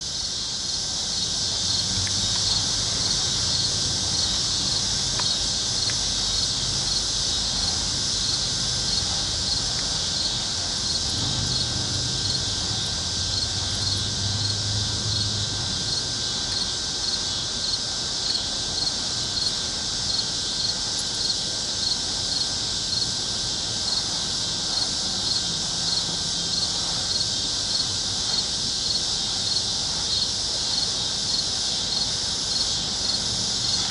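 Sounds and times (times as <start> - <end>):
insects droning: 0.0 - 33.9
regular insect chirp: 0.0 - 33.9.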